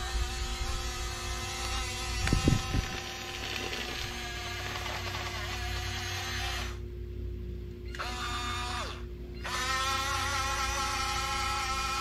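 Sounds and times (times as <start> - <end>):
toy bulldozer motor whining: 0.0 - 6.8, 7.9 - 12.0.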